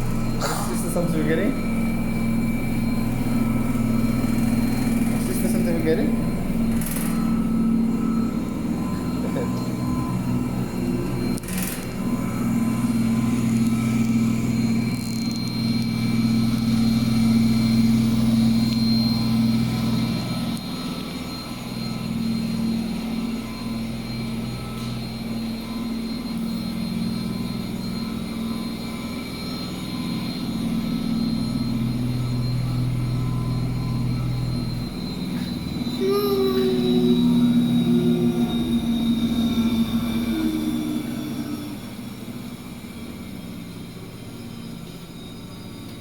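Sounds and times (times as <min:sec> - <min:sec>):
high whine: 0:00.0 - 0:46.0
washing machine droning: 0:00.0 - 0:46.0.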